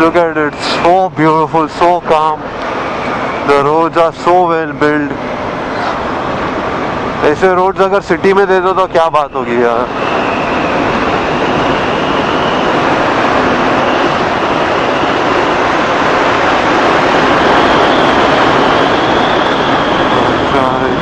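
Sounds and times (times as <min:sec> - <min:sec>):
faint high whine: 0:00.0 - 0:21.0
wind rushing over microphone: 0:00.0 - 0:21.0.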